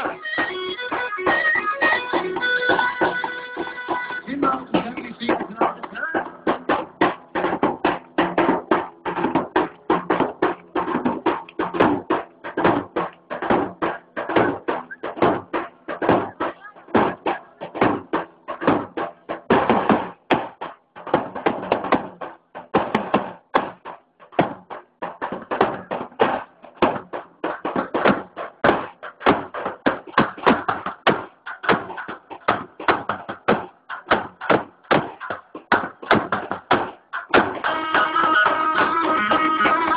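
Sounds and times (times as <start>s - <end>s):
fast rhythmic drum beats: 0.0s - 39.9s.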